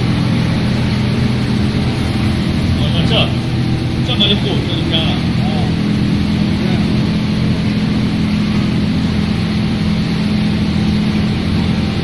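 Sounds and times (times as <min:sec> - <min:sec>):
dense whir: 0:00.0 - 0:12.0
machine mechanical hum: 0:00.0 - 0:12.0.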